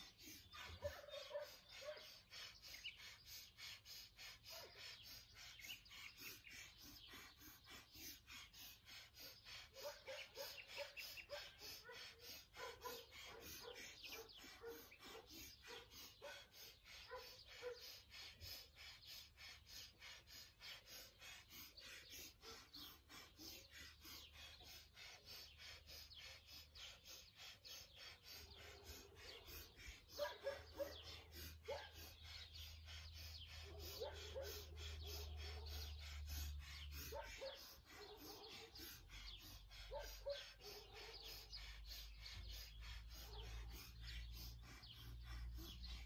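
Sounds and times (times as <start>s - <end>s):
faint bird chirps: 0.0s - 46.0s.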